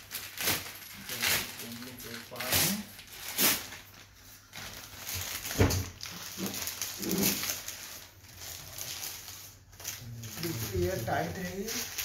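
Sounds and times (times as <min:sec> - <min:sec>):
plastic crinkling: 0:00.0 - 0:12.0.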